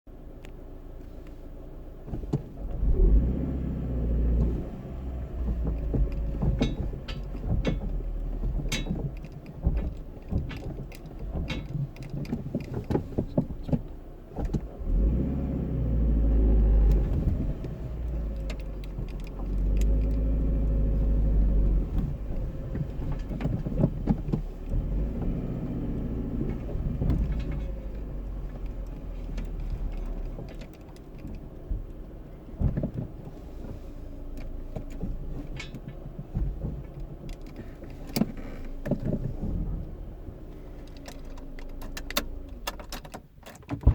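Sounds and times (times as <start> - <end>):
car engine rumble: 0.1 - 43.9
irregular clicks and knocks: 4.3 - 15.1, 16.6 - 39.8, 40.7 - 43.9.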